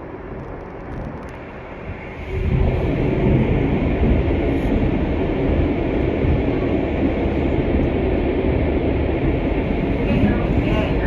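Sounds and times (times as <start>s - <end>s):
train rumbling inside carriage: 0.0s - 11.0s.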